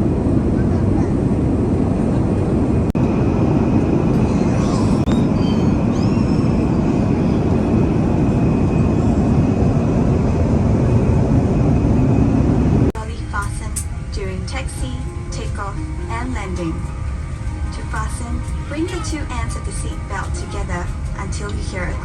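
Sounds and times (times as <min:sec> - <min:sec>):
airliner cabin rushing noise: 0:00.0 - 0:22.0.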